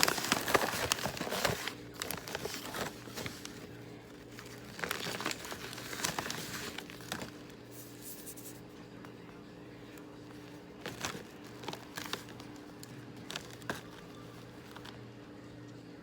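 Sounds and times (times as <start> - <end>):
packaging crinkling: 0.0 - 8.7, 9.8 - 15.0
faint steady hum: 0.0 - 16.0.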